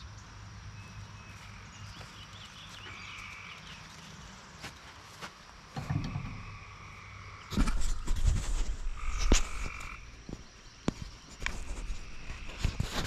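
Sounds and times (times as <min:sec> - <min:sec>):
frogs trilling: 0:00.0 - 0:04.7, 0:05.9 - 0:13.0.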